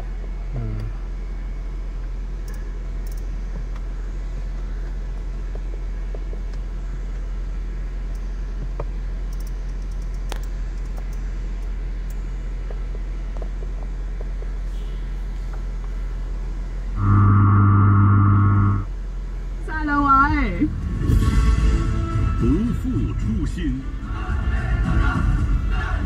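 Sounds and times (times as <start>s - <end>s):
car engine idling hum: 0.0s - 26.0s.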